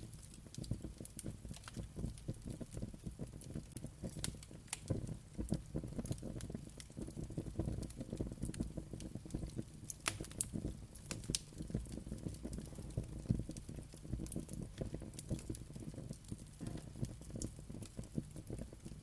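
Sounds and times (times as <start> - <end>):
low rumble of flames: 0.0 - 19.0
wood fire popping and snapping: 0.0 - 19.0.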